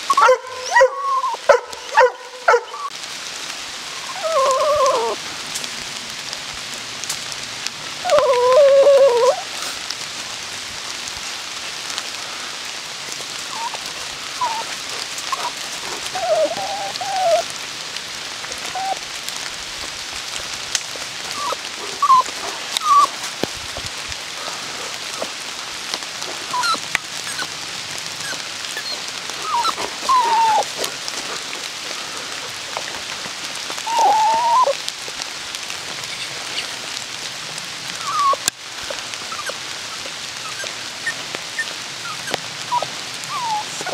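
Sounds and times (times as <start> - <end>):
rain hissing on leaves: 0.0 - 43.9.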